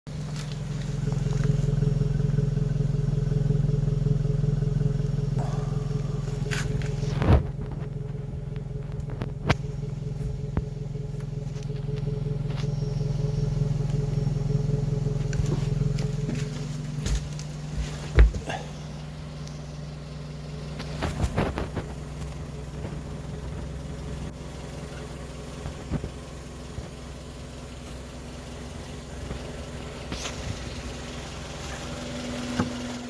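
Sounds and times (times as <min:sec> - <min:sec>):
car engine idling: 0:00.1 - 0:33.0.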